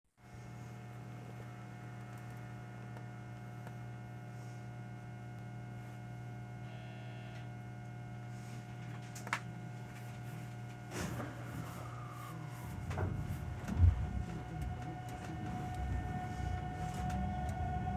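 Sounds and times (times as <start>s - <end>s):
electrical hum in train car: 0.3s - 17.9s.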